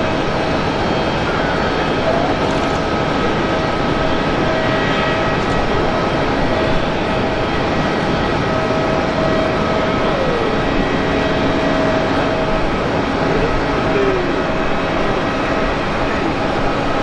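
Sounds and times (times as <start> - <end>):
jet engines idling with whine: 0.0 - 17.0.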